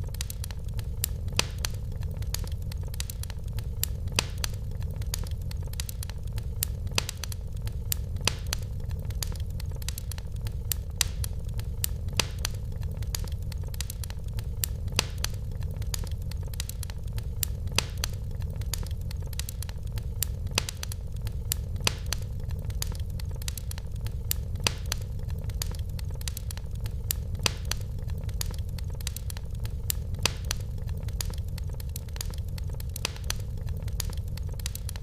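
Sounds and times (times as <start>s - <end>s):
low rumble of fire: 0.0s - 35.0s
wood fire crackling: 0.0s - 35.0s.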